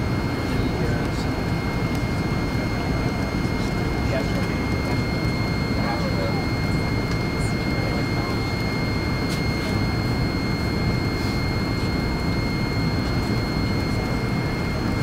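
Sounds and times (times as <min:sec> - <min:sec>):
jet engine and airflow rumble: 0:00.0 - 0:15.0
thin steady whine: 0:00.0 - 0:15.0.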